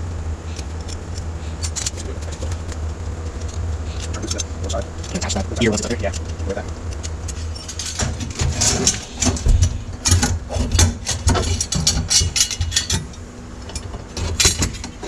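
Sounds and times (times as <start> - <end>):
low steady hum: 0.0 - 15.0
metal parts clinking and rattling: 0.5 - 6.3, 6.9 - 15.0.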